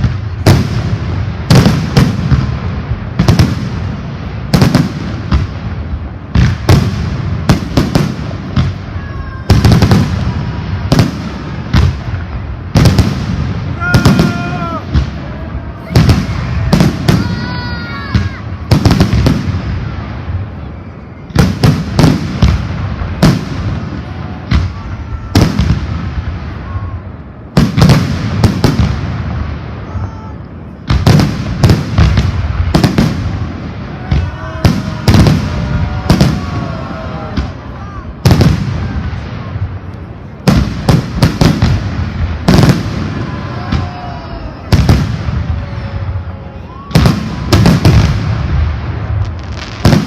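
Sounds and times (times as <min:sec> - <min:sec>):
fireworks bursting: 0:00.0 - 0:50.0.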